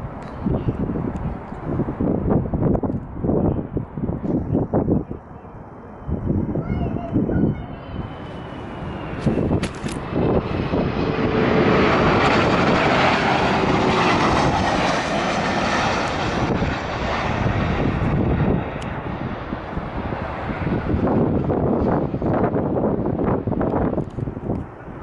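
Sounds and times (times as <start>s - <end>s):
airliner engines rushing: 0.0s - 25.0s.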